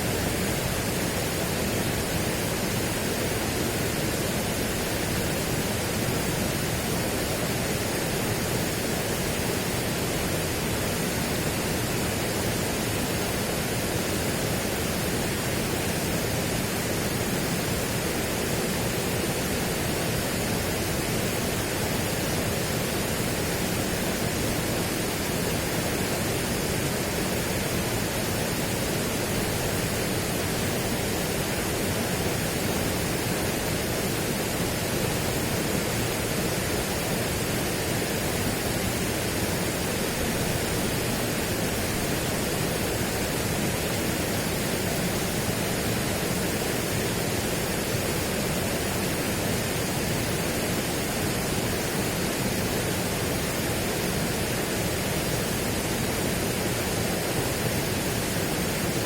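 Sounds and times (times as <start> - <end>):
steady broadband rushing noise: 0.0 - 59.0.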